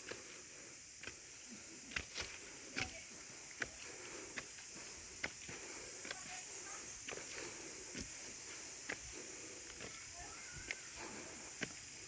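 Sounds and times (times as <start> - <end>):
footsteps on a trail: 0.0 - 12.0
steady high-pitched hiss: 0.0 - 12.0.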